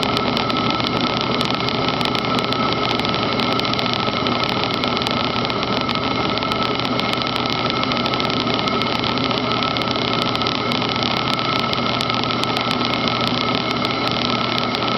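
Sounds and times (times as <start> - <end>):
constant machine whine: 0.0 - 14.9
milling machine cutting steel: 0.0 - 14.9.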